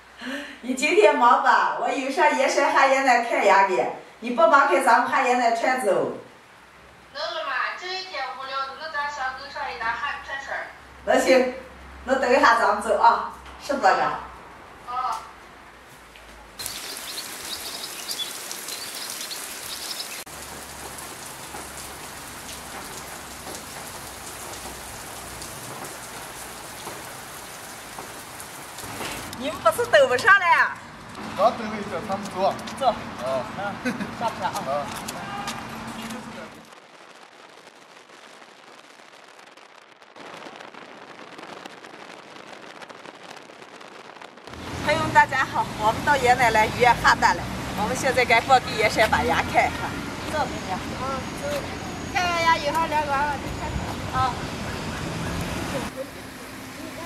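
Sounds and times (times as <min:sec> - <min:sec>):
rain falling: 0:06.3 - 0:57.0.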